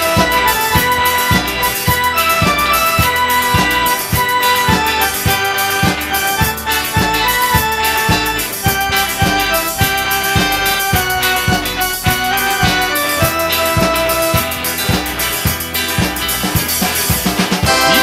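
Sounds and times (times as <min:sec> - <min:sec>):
drum kit beat: 0:00.0 - 0:18.0
rock band playing: 0:00.0 - 0:18.0.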